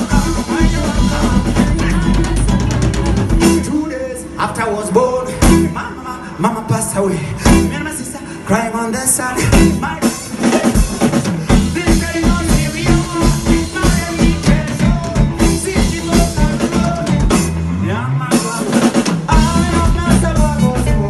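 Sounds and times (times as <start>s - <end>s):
drum kit: 0.0s - 6.0s, 7.4s - 8.1s, 9.2s - 21.0s
electric guitars: 0.0s - 21.0s
keyboard: 0.0s - 21.0s
person singing: 0.0s - 21.0s.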